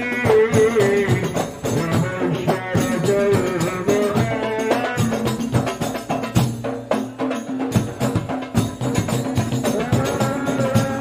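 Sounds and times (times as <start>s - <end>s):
frame drums playing fast beat: 0.0s - 11.0s.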